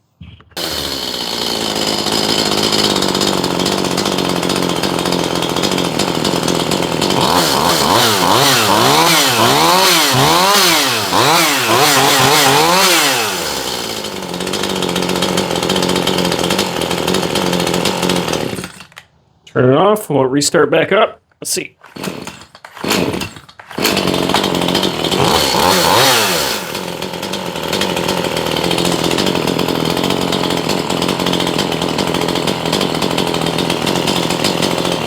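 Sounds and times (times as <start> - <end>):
chainsaw engine idling and revving: 0.6 - 19.0, 21.8 - 35.0.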